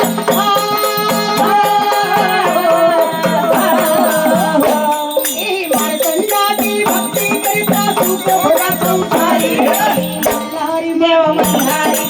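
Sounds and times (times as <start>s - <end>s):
drum strokes: 0.0s - 12.0s
rattling percussion: 0.0s - 12.0s.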